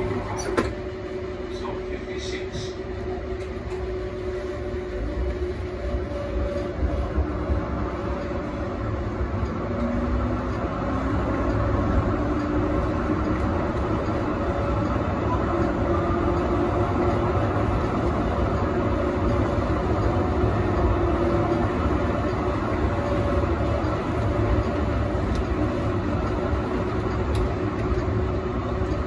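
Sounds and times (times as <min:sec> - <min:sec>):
tram wheels rumbling on rail: 0:00.0 - 0:29.0.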